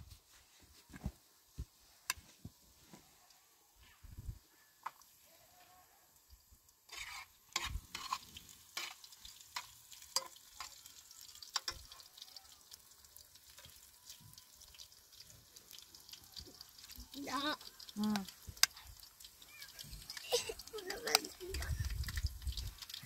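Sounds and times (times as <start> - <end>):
faint frying sizzle: 0.0 - 23.0.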